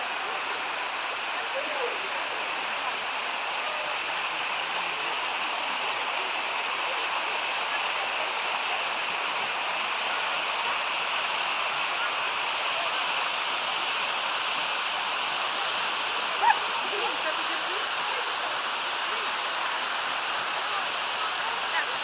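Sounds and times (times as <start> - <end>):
stream cascading over waterfalls: 0.0 - 22.0.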